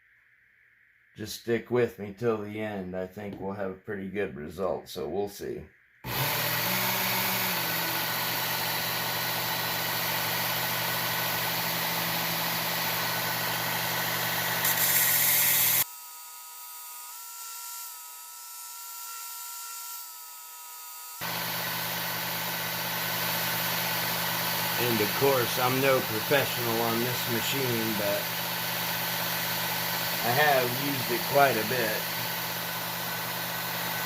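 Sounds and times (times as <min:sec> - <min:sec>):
belt sharpener motor hum: 0:06.1 - 0:34.0
blade grinding on belt: 0:06.1 - 0:34.0.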